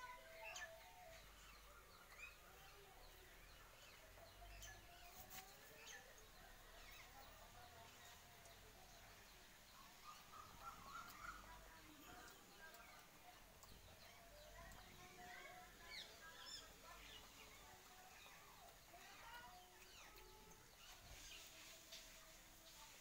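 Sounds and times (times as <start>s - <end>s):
bird chirps and calls: 0.0s - 21.8s.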